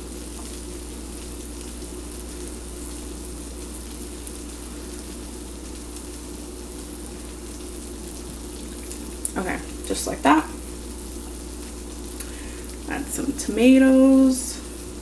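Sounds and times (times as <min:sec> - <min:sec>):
food sizzling in a pan: 0:00.0 - 0:15.0
low steady hum: 0:00.0 - 0:15.0.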